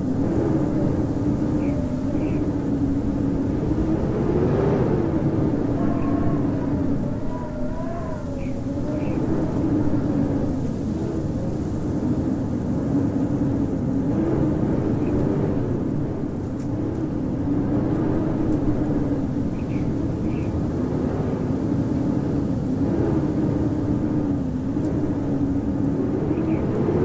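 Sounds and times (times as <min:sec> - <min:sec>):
howling blizzard wind: 0:00.0 - 0:27.0.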